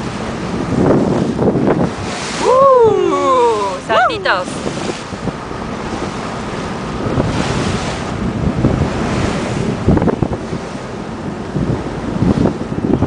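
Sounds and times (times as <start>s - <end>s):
water splashing against boat hull: 0.0s - 13.0s
wind buffeting microphone: 0.0s - 13.0s.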